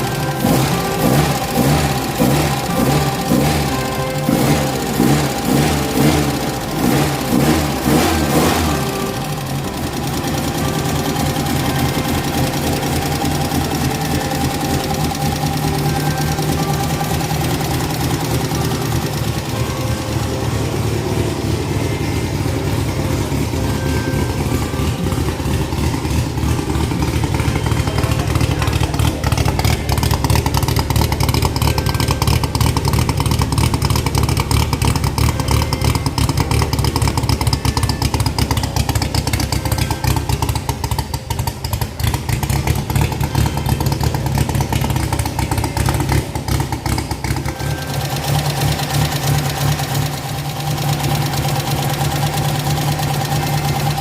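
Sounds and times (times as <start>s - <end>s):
car engine running steadily: 0.0s - 54.0s.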